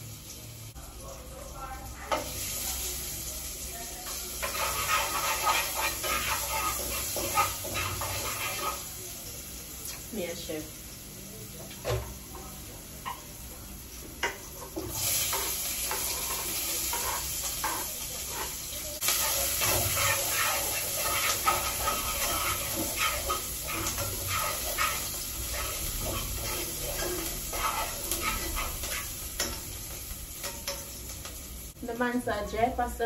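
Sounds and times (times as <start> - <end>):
food sizzling in a pan: 0.0 - 33.0.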